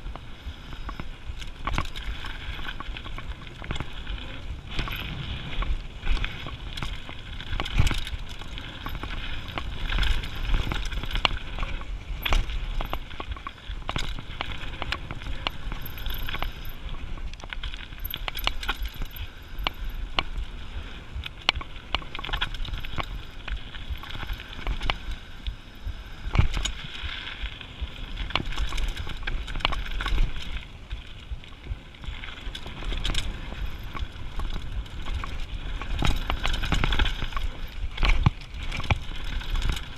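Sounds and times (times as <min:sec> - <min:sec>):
bike clicks and knocks over bumps: 0:00.0 - 0:39.9
bike tyres rolling on gravel: 0:00.0 - 0:39.9
wind rumble on microphone: 0:00.0 - 0:39.9.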